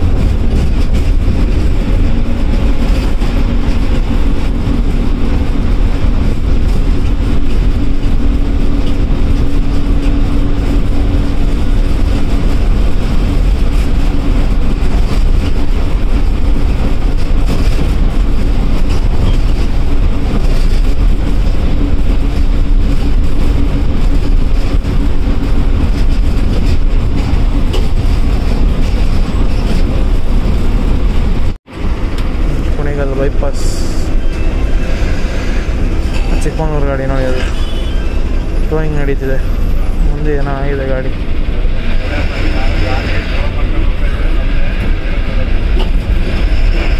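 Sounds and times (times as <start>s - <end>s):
bus engine drone: 0.0s - 46.9s
road rumble: 0.0s - 46.9s.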